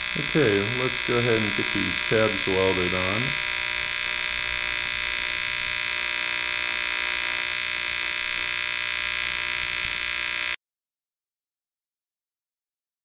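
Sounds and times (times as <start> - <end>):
welding arc buzzing: 0.0 - 10.6.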